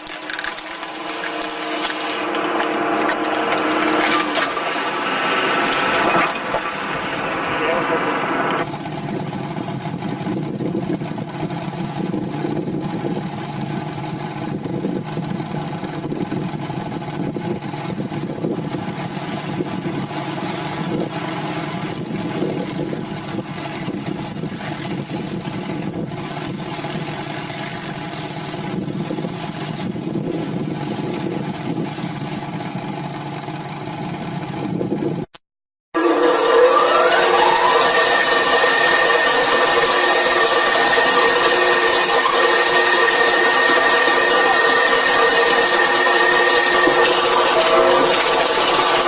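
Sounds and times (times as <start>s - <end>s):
mechanical clatter: 0.0s - 7.0s, 8.5s - 32.8s, 36.0s - 49.0s
machine engine under load: 0.0s - 35.3s, 36.0s - 49.0s.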